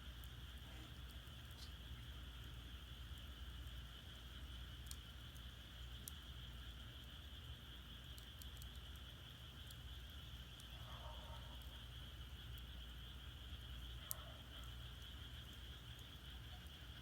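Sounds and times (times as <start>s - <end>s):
firewood crackling: 0.0s - 17.0s
insects chirring: 0.0s - 17.0s.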